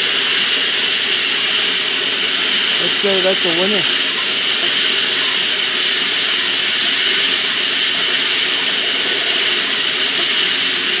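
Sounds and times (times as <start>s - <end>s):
stars tumbling in rotating drum: 0.0s - 11.0s.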